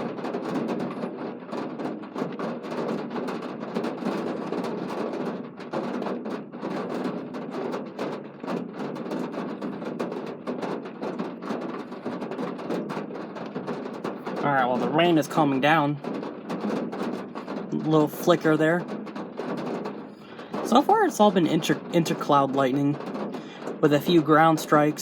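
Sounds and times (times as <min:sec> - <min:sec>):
heavy rain on hard surface: 0:00.0 - 0:25.0.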